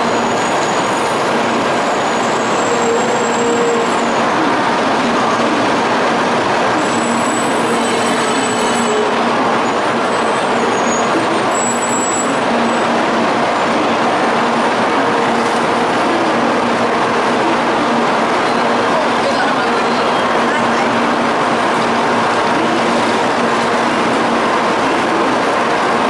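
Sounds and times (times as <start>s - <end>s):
train rushing noise: 0.0s - 26.0s.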